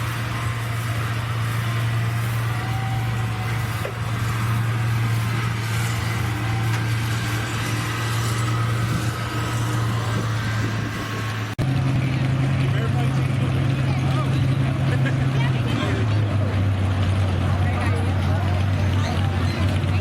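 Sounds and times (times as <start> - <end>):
tractor engine humming: 0.0 - 20.0.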